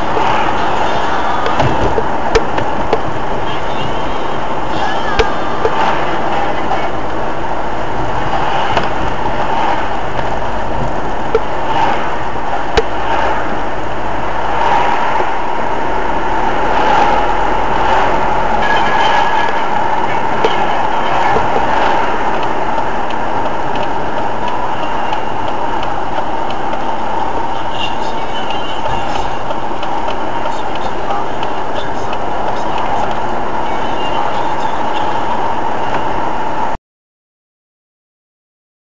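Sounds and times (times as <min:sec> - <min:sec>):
car road and engine noise: 0:00.0 - 0:36.8.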